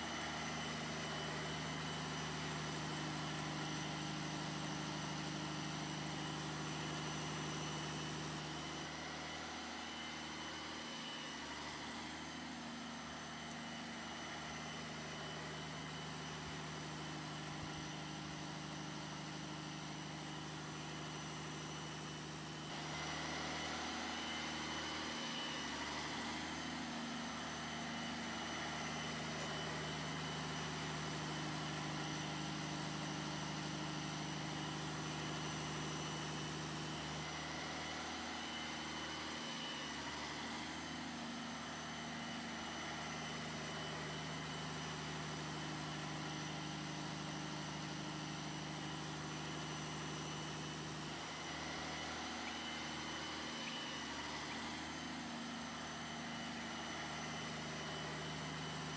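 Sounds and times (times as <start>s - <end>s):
small electric motor humming: 0.0s - 58.9s.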